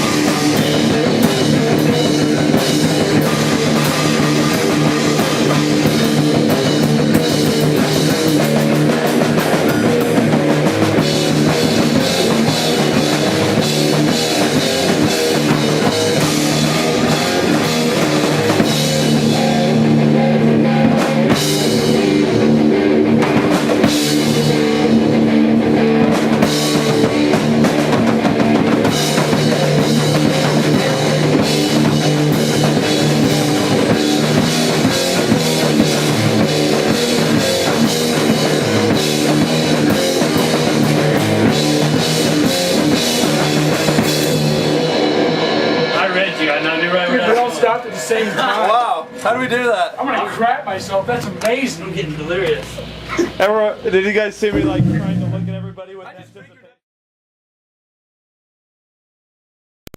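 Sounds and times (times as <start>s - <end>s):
rock band playing: 0.0s - 56.7s.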